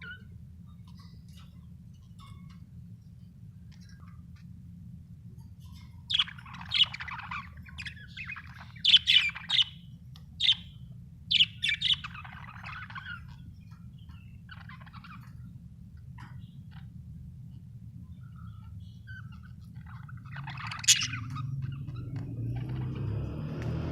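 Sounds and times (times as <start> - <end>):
budgerigars chirping and chattering: 0.0 - 2.6, 5.6 - 23.9
low hum: 0.0 - 23.9.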